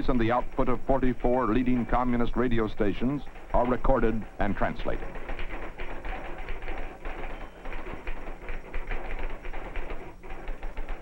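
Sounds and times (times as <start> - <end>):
typewriter keys clattering: 0.0 - 11.0.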